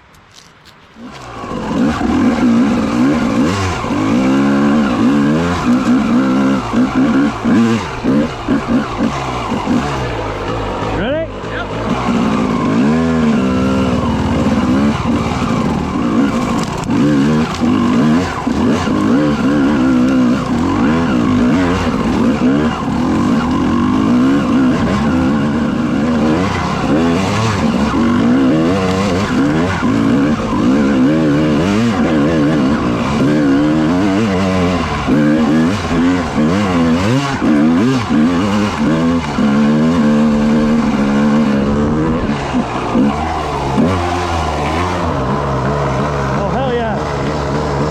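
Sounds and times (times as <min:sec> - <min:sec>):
dirt bike engine revving: 0:01.0 - 0:47.9.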